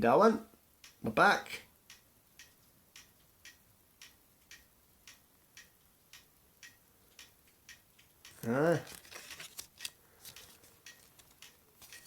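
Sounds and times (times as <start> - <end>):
faint regular ticking: 0.6 - 12.0.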